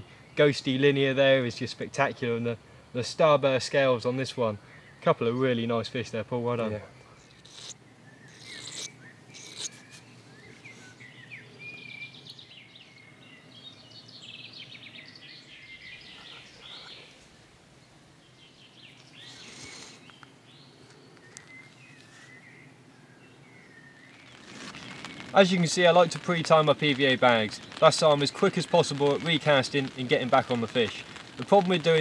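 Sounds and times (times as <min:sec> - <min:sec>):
birds chirping faintly: 0:00.0 - 0:32.0.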